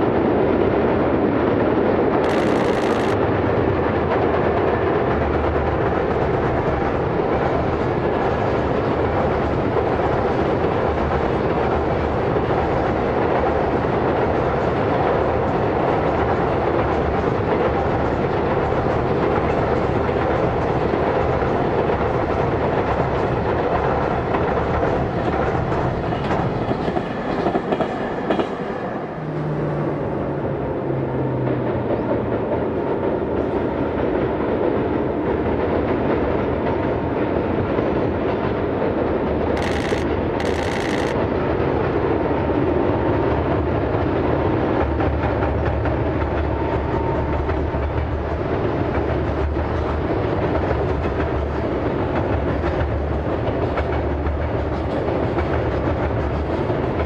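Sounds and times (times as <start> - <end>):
train rumble with low tone: 0.0 - 57.0
train wheels clattering on rails: 2.1 - 28.9, 31.0 - 57.0.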